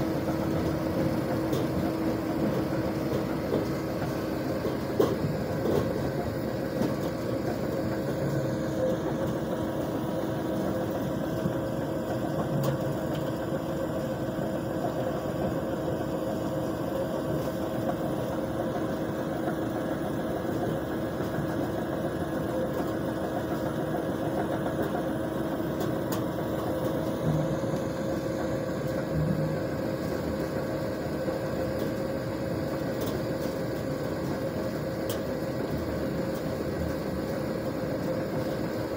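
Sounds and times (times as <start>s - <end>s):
machine engine and conveyors droning: 0.0s - 38.9s
steady machine whine: 0.0s - 38.9s.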